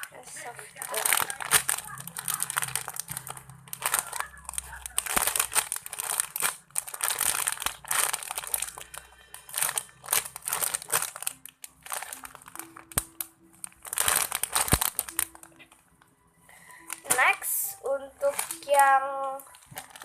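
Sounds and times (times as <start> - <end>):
foam squishy crinkly rustling: 0.0 - 15.8, 16.5 - 20.0.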